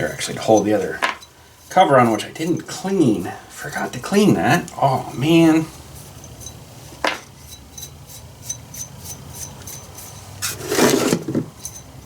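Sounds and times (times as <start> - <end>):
short scraping rub: 0.0 - 11.9.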